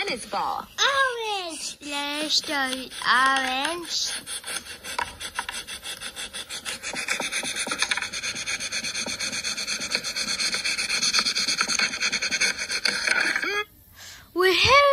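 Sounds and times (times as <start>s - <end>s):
orange rasping against metal: 0.9s - 13.7s.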